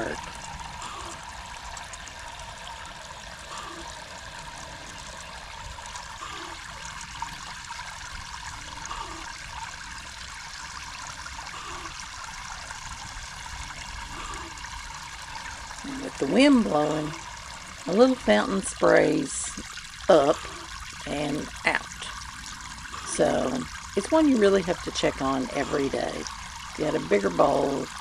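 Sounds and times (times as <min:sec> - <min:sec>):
faint pump pulse: 0:00.0 - 0:28.0
fountain pump water trickling: 0:00.0 - 0:28.0.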